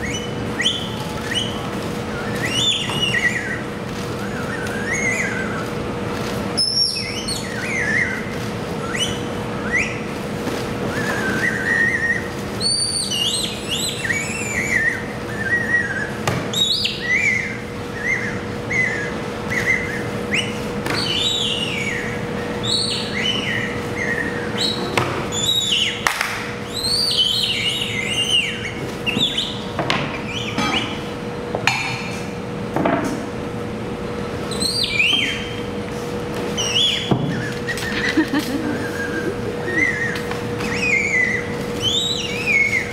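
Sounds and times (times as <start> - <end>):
birds chirping and whistling: 0.0 - 32.3, 34.2 - 42.9
steady hum: 0.0 - 42.9.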